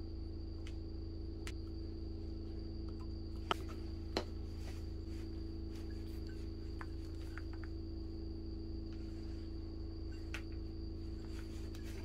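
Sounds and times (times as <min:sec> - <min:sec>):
low electrical hum: 0:00.0 - 0:12.0
thin high whine: 0:00.0 - 0:12.0.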